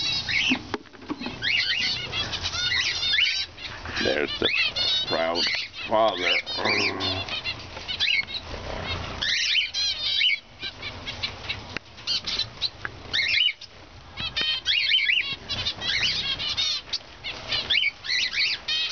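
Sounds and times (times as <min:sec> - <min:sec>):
birds chirping and calling: 0:00.0 - 0:18.9.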